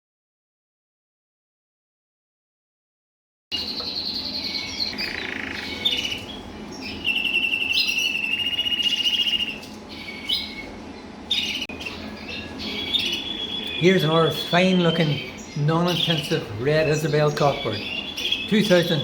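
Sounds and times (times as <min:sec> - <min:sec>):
canaries singing trills: 0:03.5 - 0:19.0.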